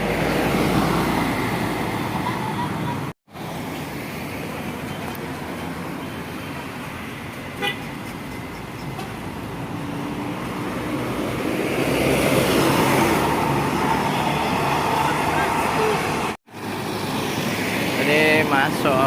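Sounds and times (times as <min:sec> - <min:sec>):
bus engine passing: 0:00.0 - 0:19.0
road traffic: 0:00.0 - 0:19.0.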